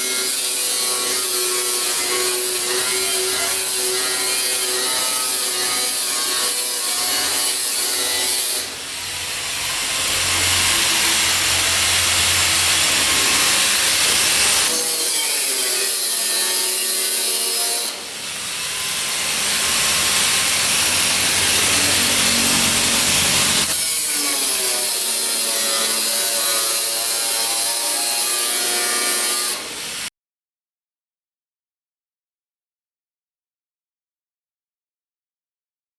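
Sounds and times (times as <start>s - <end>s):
power tool cutting steel plate: 0.0s - 30.1s.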